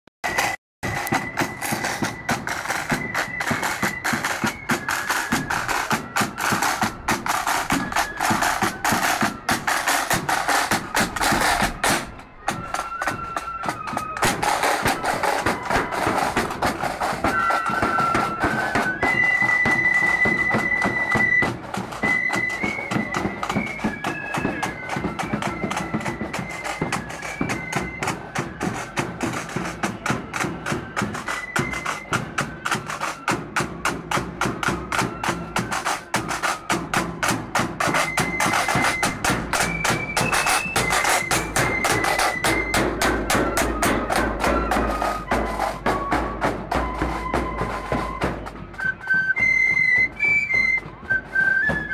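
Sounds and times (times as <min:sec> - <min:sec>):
marching drum beat: 0:00.2 - 0:49.0
flutes playing melody: 0:00.2 - 0:51.9.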